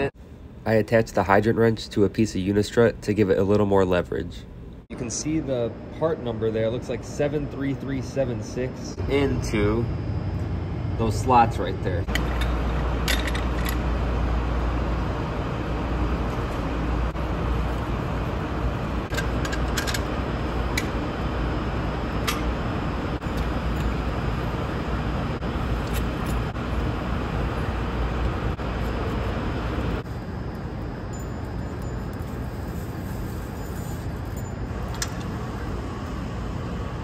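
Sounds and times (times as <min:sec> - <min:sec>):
low rumbling background noise: 0:00.0 - 0:37.0.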